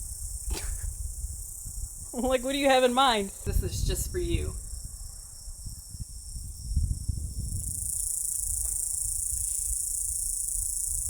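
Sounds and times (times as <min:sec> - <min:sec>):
high-pitched insect chorus: 0:00.0 - 0:11.0
low wind rumble on microphone: 0:00.0 - 0:11.0.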